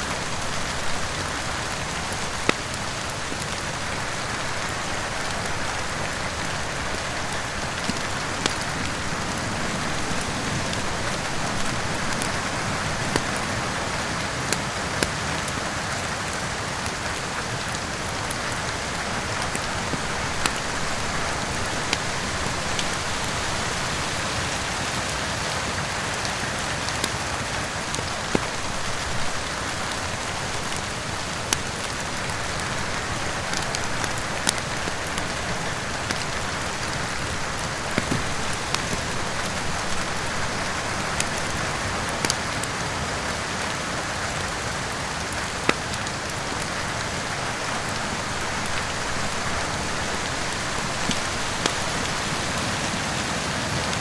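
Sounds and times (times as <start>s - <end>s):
heavy rain: 0.0s - 54.0s
wood fire crackling: 0.0s - 54.0s.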